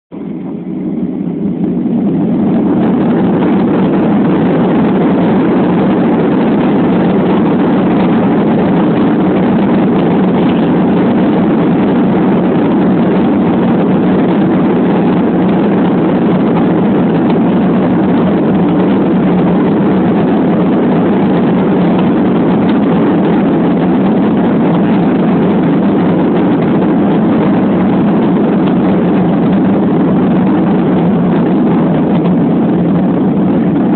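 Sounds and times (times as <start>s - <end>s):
airliner engines roaring: 0.1s - 33.9s.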